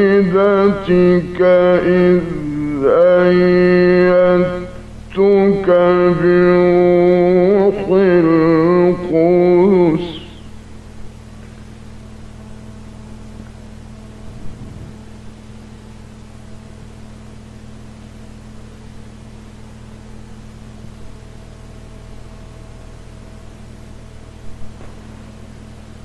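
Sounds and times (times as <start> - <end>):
low mains hum: 0.0 - 26.0.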